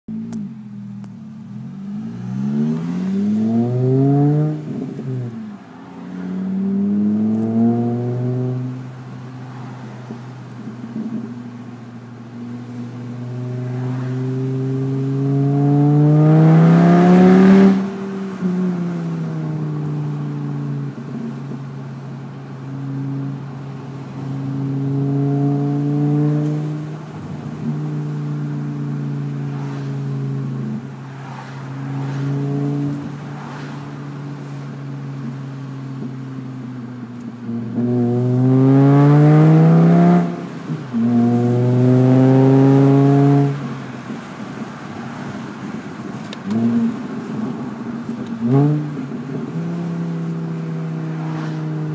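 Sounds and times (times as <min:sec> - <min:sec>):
car engine revving: 0:00.2 - 0:51.9.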